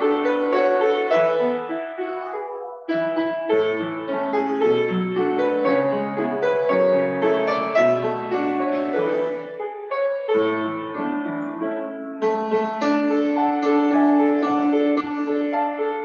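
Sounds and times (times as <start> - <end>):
upright piano playing chords: 0.0 - 16.0.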